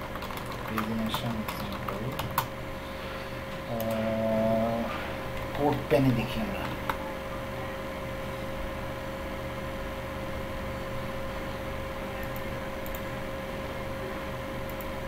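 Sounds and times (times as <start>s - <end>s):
electrical hiss and hum: 0.0s - 15.0s.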